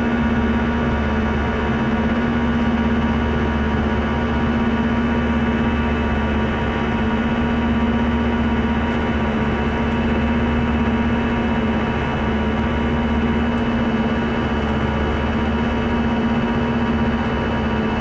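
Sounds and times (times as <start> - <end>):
aircraft engine drone: 0.0 - 18.0
constant low hum: 0.0 - 18.0.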